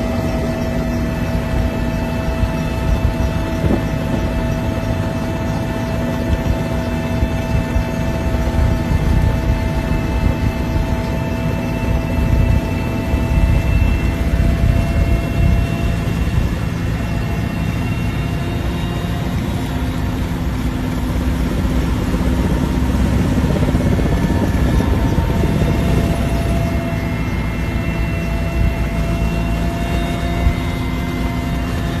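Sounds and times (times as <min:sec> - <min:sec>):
helicopter rotor rumble: 0:00.0 - 0:32.0
helicopter whine: 0:00.0 - 0:32.0.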